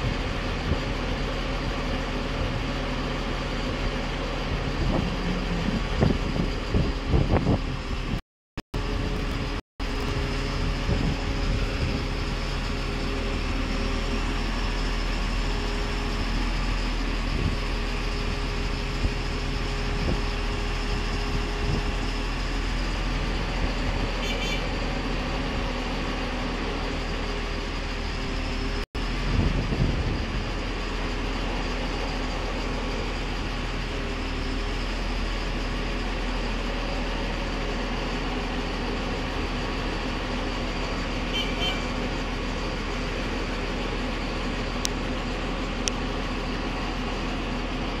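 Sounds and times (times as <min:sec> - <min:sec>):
construction machinery droning: 0:00.0 - 0:08.2, 0:08.8 - 0:48.0.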